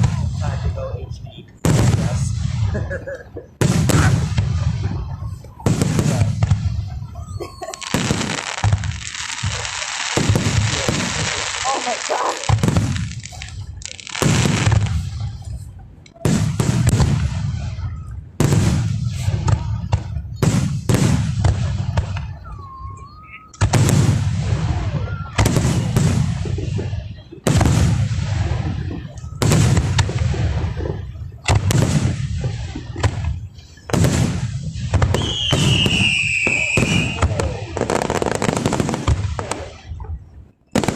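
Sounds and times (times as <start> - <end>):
firework bursts booming and crackling: 0.0 - 40.9.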